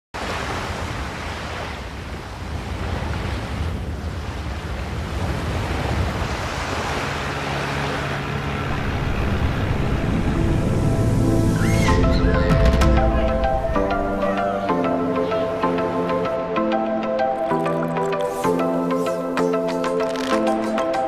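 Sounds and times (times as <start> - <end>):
waves washing: 0.2 - 21.0.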